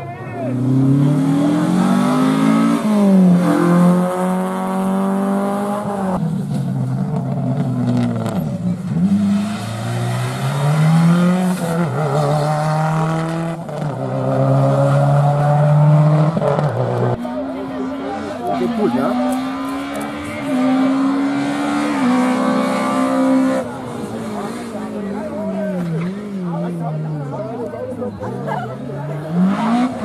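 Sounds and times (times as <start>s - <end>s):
rally car engine accelerating: 0.5s - 30.0s.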